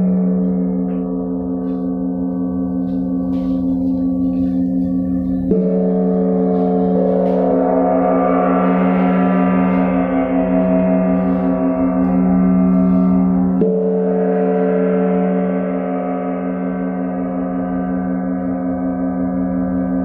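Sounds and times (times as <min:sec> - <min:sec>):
gong ringing: 0:00.0 - 0:20.0
padded mallet striking gong: 0:00.0 - 0:20.0.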